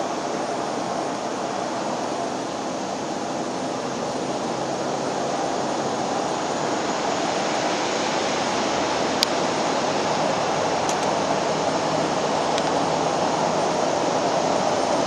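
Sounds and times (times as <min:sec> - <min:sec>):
aircraft turbine roar: 0:00.0 - 0:15.0.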